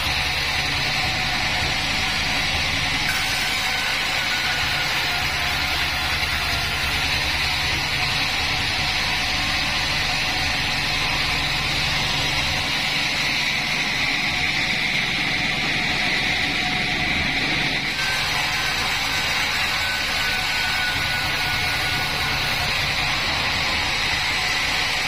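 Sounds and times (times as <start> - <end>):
band sawmill sawing log: 0.0 - 25.0.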